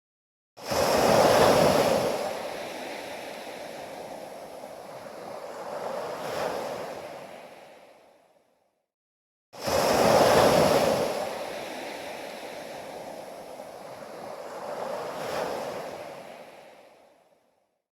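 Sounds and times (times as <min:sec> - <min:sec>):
ocean waves breaking: 0:00.6 - 0:08.2, 0:09.6 - 0:17.2.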